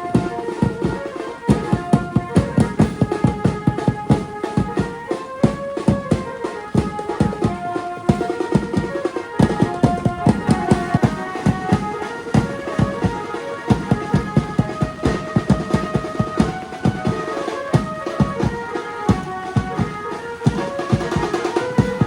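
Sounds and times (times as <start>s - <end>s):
dance music with fast drum beat: 0.0s - 22.0s
held melody: 0.0s - 22.0s.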